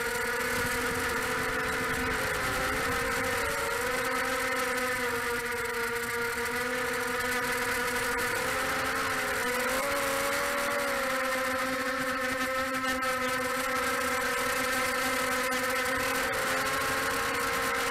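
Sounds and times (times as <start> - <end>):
quadcopter motors whining: 0.0 - 17.9.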